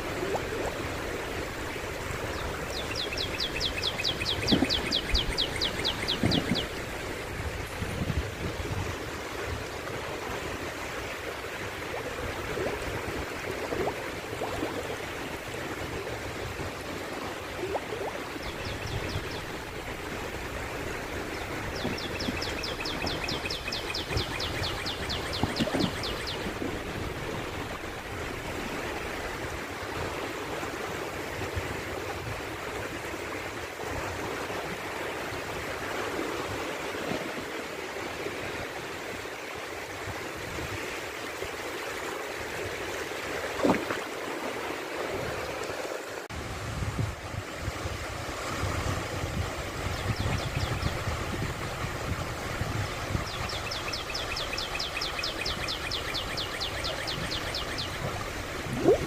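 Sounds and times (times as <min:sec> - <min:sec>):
small water splashes: 0:00.0 - 0:46.4, 0:47.8 - 0:59.0
sea water washing on shore: 0:00.0 - 0:59.0.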